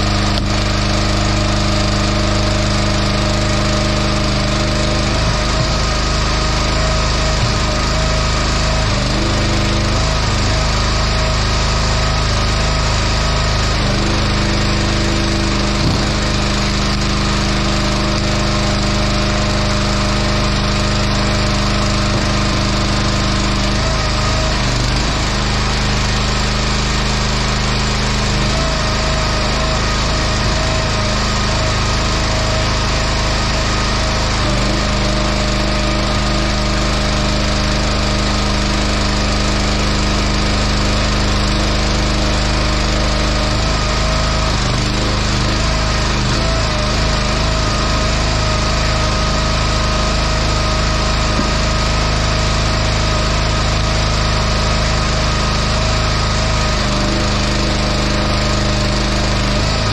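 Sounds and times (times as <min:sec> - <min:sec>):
small gas engine running: 0:00.0 - 0:59.9.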